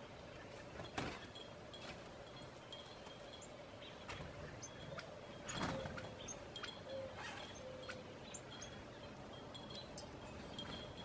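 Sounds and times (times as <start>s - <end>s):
wind chimes tinkling: 0.6s - 11.0s.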